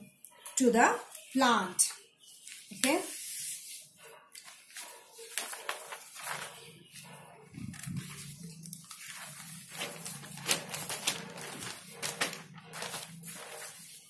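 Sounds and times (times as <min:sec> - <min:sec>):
paper rustling and crinkling: 0:02.3 - 0:14.0.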